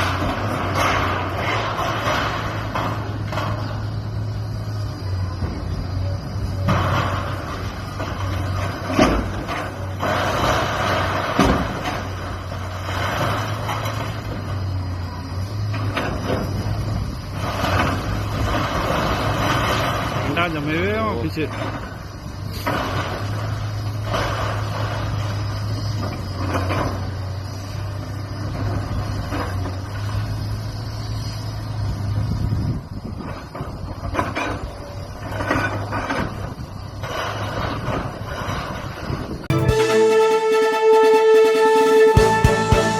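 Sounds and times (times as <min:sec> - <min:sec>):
diesel engine running under load: 0:00.0 - 0:42.9.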